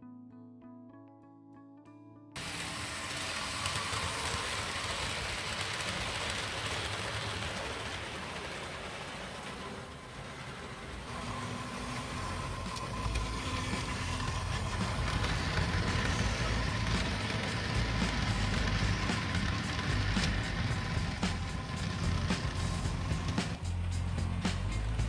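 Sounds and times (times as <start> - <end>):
model train rattling on track: 2.4 - 25.0.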